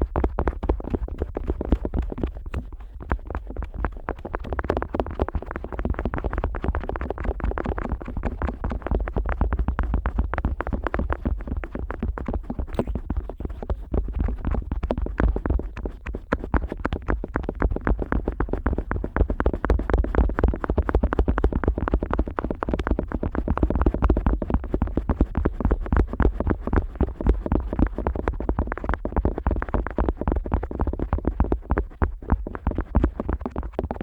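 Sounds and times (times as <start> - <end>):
scratchy rubbing and tapping: 0.0 - 34.0.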